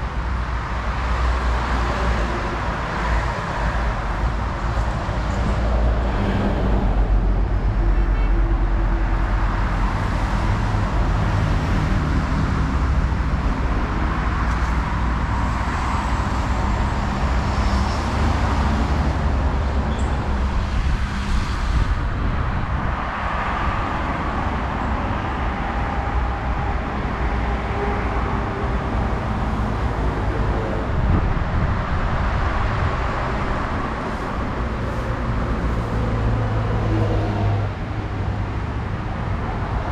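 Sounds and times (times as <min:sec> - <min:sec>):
road traffic engine hum: 0:00.0 - 0:39.9.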